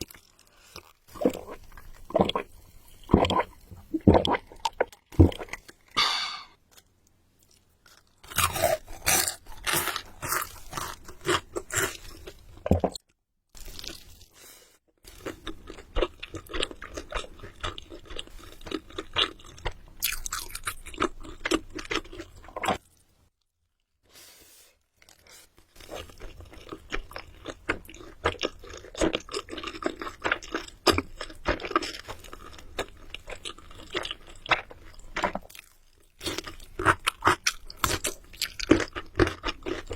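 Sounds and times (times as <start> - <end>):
person chewing crunchy food: 0.0 - 14.3, 15.0 - 23.0, 25.0 - 39.9.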